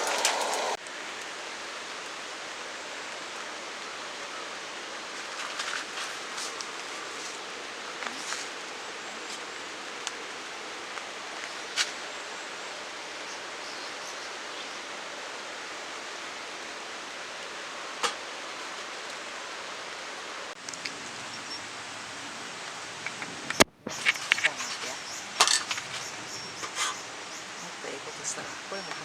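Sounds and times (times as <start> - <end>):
campfire hissing and popping: 0.0 - 29.0.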